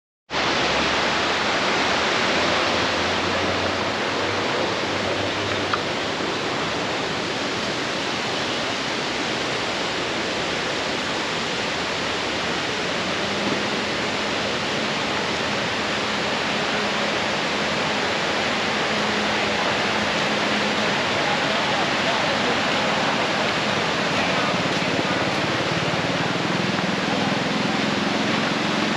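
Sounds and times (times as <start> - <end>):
waterfall rushing: 0.3 - 28.9.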